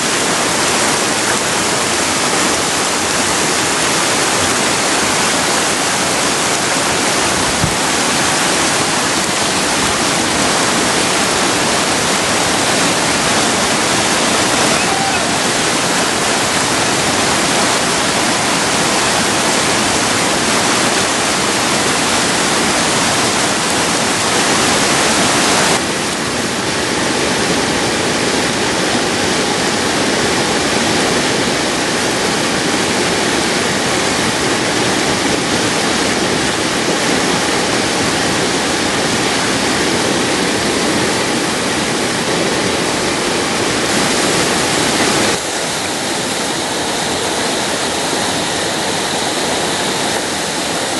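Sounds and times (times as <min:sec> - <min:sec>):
water rushing over rocks: 0:00.0 - 0:50.9.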